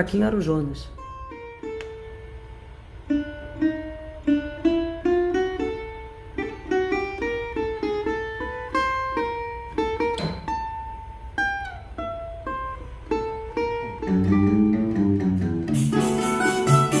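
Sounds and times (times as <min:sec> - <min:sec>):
guitar: 0:00.0 - 0:17.0
plucked cavaquinho melody: 0:00.8 - 0:17.0.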